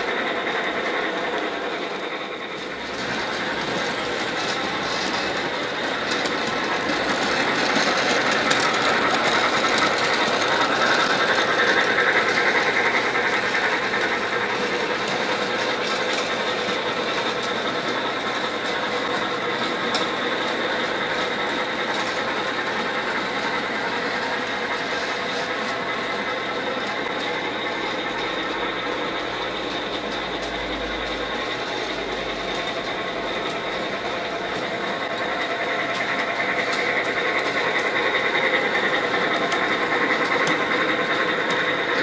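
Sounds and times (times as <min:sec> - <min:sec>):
model train motors whirring: 0:00.0 - 0:42.0
wheels rolling on rails: 0:00.0 - 0:42.0.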